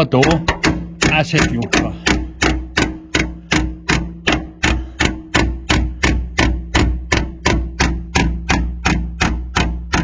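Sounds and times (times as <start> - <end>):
hammer striking sheet metal: 0.0 - 10.0.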